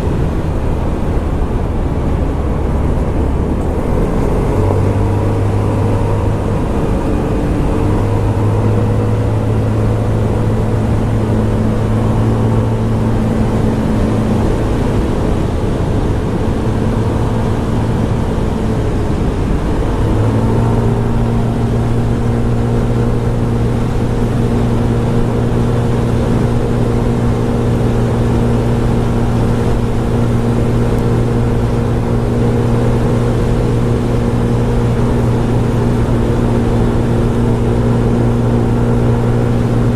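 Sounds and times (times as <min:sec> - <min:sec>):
scooter engine cruising: 0:00.0 - 0:39.9
wind and road rush: 0:00.0 - 0:39.9.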